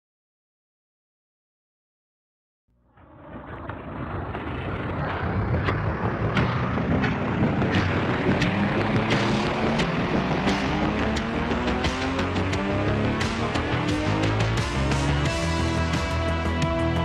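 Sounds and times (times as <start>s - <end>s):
low drone: 2.7s - 17.0s
electronic intro music: 3.0s - 17.0s.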